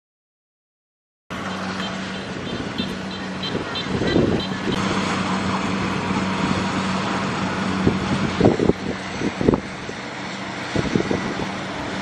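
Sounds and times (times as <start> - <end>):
diesel engine hum: 1.3 - 12.0
mechanical rush: 1.3 - 12.0.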